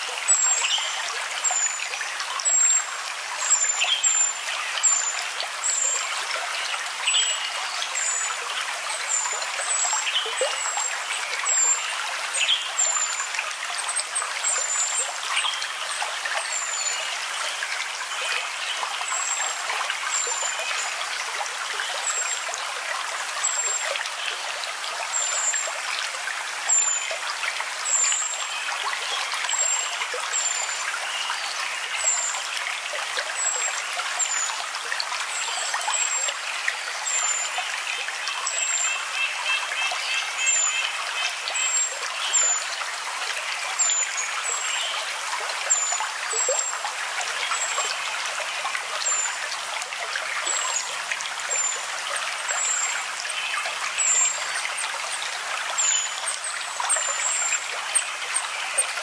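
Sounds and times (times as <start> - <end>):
stream water running: 0.0 - 59.0.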